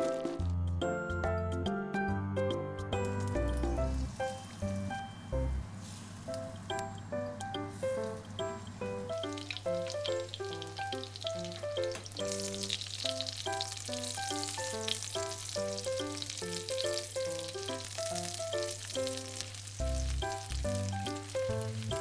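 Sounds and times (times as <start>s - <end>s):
plucked background music: 0.0s - 22.0s
food sizzling in a pan: 3.2s - 22.0s.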